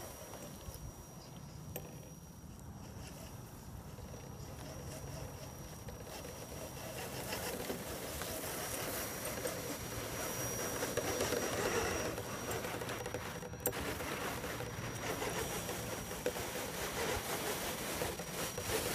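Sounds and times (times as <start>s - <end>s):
thin high whine: 0.0s - 18.9s
small electric motor whirring: 1.8s - 18.9s.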